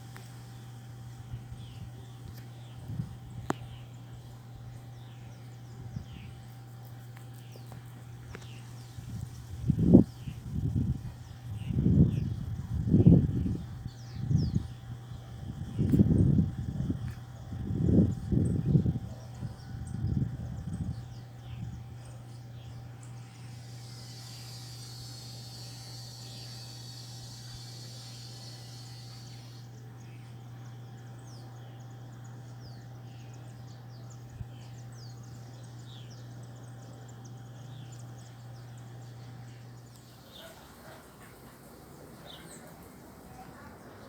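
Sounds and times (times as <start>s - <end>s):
high insect buzz: 0.0s - 43.8s
steady low hum: 0.0s - 44.0s.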